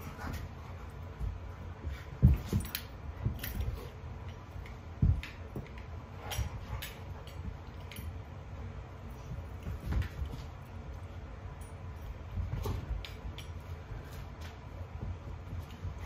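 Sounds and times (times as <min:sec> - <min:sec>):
dogs wrestling thumps on rug: 0:00.0 - 0:08.0, 0:09.2 - 0:10.6, 0:12.0 - 0:16.0.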